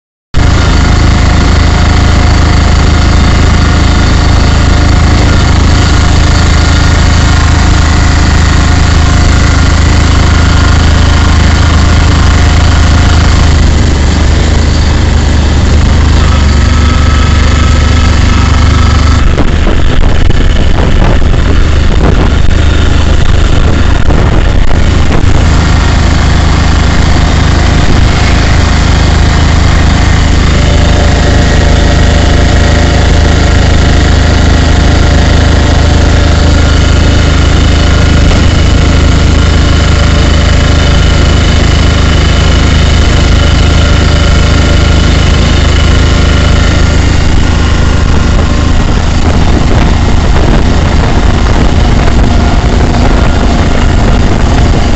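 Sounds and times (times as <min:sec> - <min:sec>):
vehicle engine hum: 0:00.0 - 0:54.9
steady tones: 0:00.4 - 0:54.9.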